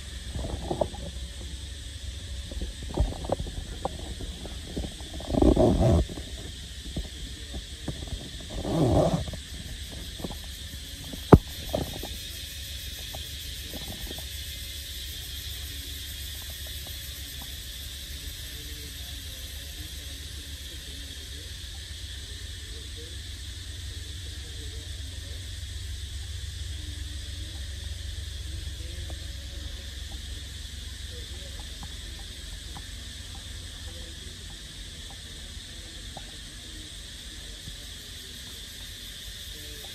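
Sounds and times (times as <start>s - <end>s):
high insect buzz: 0.0s - 39.9s.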